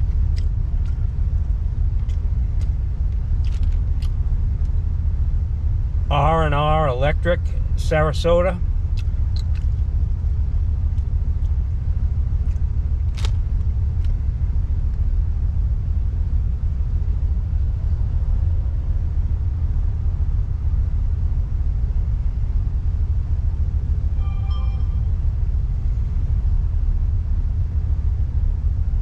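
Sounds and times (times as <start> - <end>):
truck engine and road noise: 0.0 - 29.0.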